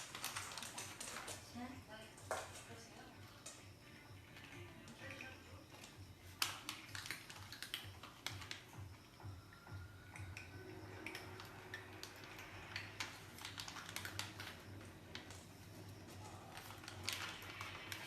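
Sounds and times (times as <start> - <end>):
pet crunching treats: 0.0 - 18.0.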